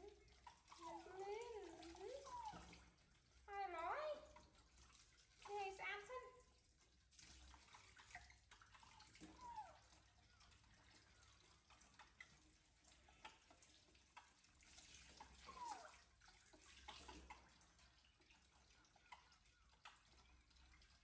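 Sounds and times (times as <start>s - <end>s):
small water splashes and knocks: 0.0s - 21.0s.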